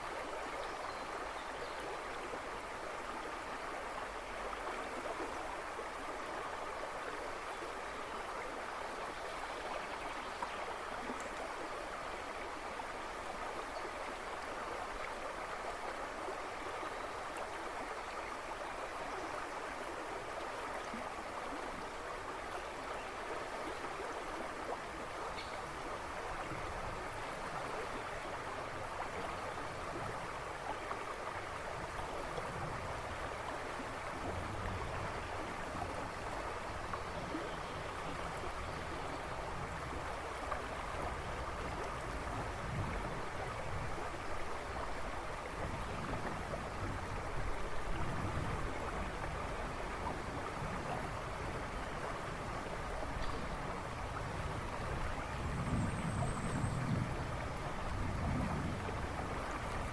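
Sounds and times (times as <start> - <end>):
river rushing and splashing: 0.0 - 59.9.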